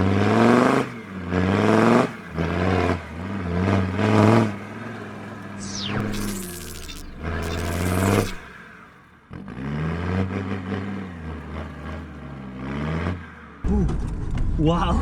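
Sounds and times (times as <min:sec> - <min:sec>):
diesel engine accelerating: 0:00.0 - 0:14.6.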